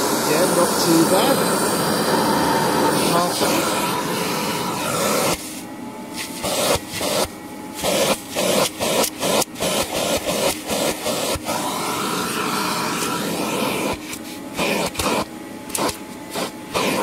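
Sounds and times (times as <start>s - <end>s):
vacuum cleaner suction: 0.0s - 17.0s.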